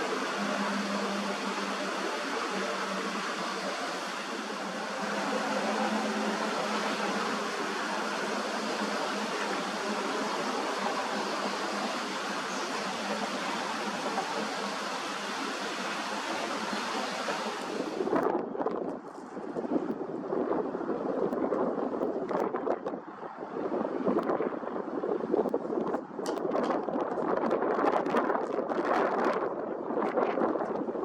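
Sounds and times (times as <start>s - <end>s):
steady rushing noise: 0.0s - 31.0s.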